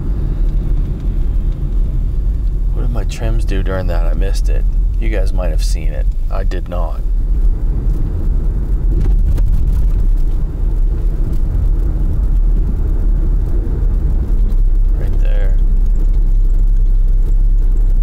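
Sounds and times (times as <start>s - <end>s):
car engine low rumble: 0.0s - 18.0s
road noise: 0.0s - 18.0s.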